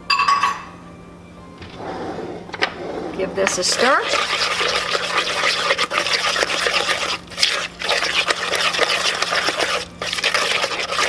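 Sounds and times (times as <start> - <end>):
batter stirring swish: 1.8 - 11.0.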